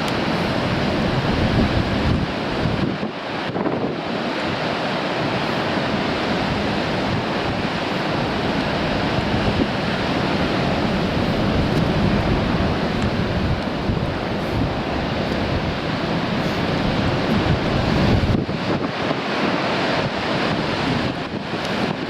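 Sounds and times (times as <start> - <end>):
sea waves breaking on rocks: 0.0 - 22.0
wind buffeting microphone: 0.0 - 22.0.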